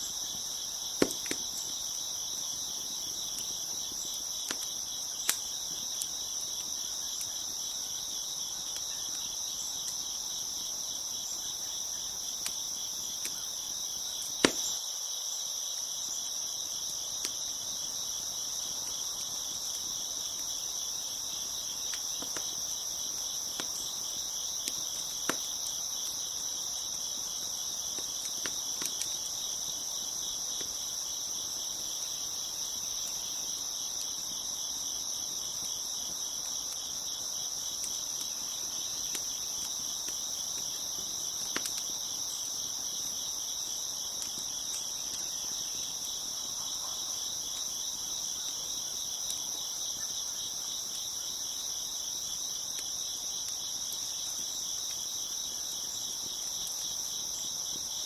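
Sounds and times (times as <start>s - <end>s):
crickets chirping: 0.0s - 58.0s
wood fire crackling: 0.0s - 58.0s.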